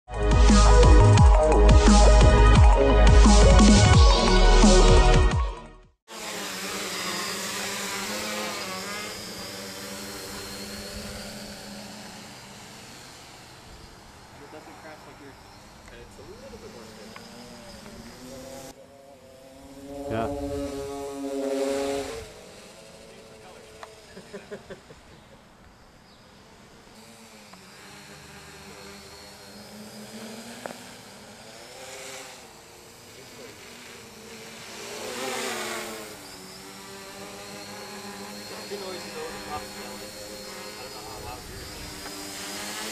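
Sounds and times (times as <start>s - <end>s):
drone propellers whirring: 0.1s - 42.9s.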